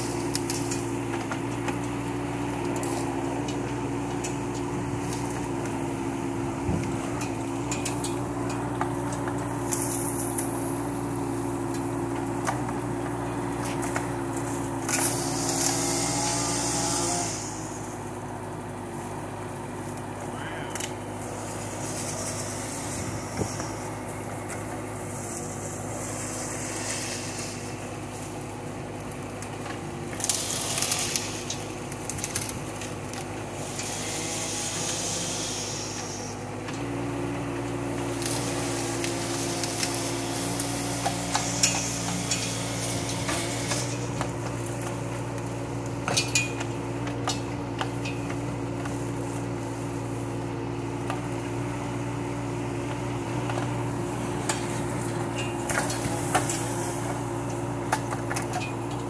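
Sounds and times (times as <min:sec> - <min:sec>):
branches rustling and cracking: 0:00.0 - 0:59.0
excavator diesel engine running: 0:00.0 - 0:59.0.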